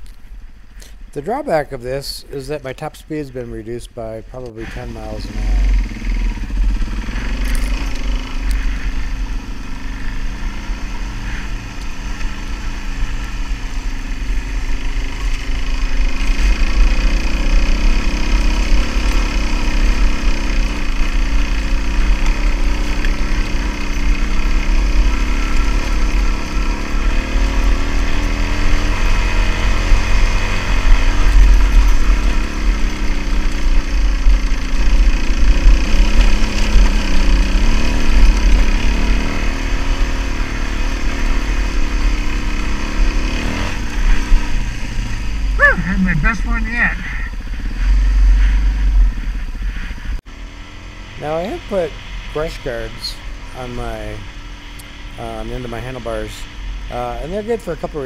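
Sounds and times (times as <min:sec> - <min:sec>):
dirt bike engine climbing hill: 0:04.5 - 0:58.0.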